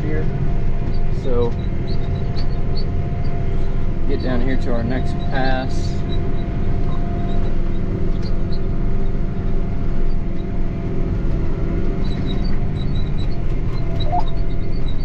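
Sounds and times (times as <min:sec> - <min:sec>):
thin steady whine: 0:00.0 - 0:15.0
tractor engine droning: 0:00.0 - 0:15.0.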